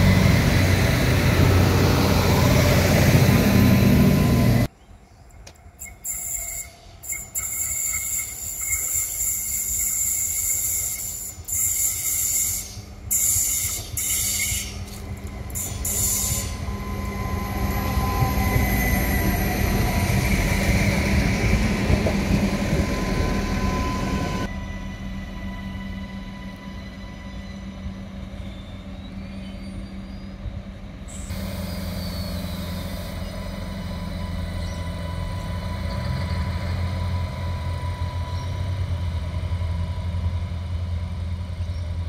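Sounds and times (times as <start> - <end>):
diesel railcar engine rumble: 0.0 - 42.0.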